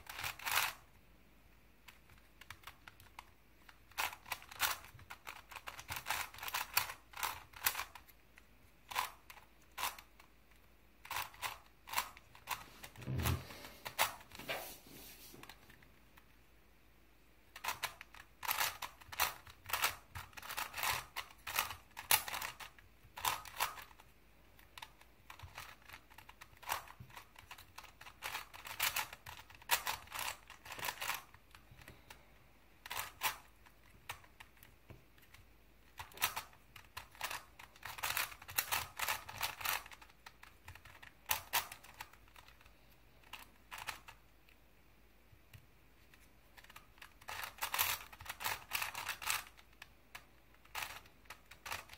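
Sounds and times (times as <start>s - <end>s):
puzzle cube clicking: 0.0s - 0.9s, 1.8s - 14.4s, 17.5s - 32.0s, 32.8s - 44.6s, 45.4s - 51.9s.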